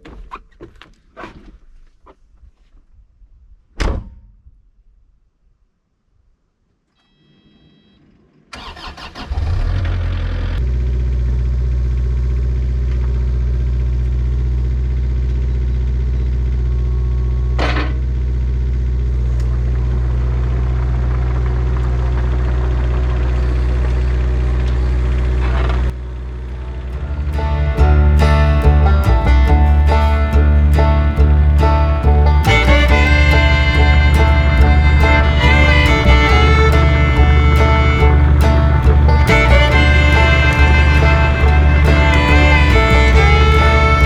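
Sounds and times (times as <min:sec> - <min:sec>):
diesel engine starting and running: 0:08.2 - 0:44.0.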